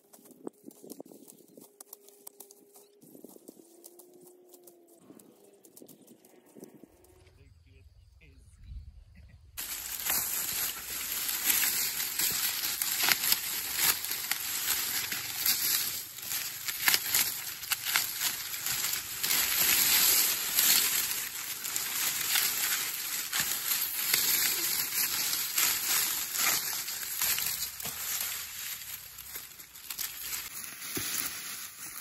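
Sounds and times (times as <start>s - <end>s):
dry corn husks crackling: 0.0s - 7.3s, 9.6s - 32.0s.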